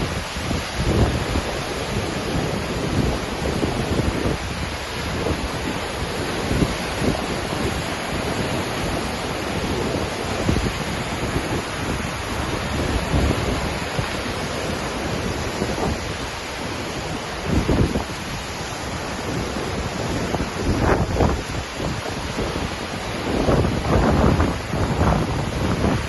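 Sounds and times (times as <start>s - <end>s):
waterfall roaring: 0.0s - 26.0s
wind buffeting microphone: 0.0s - 26.0s.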